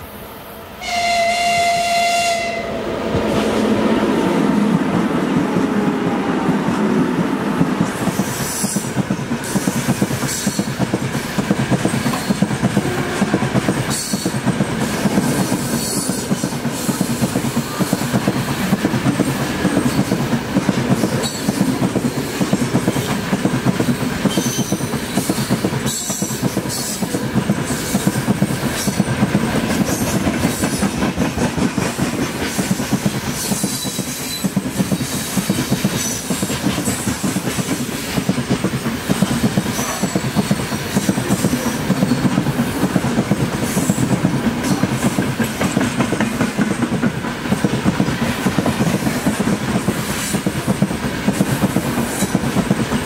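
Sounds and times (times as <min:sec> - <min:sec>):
train wheels clattering on rails: 0:03.1 - 0:53.0.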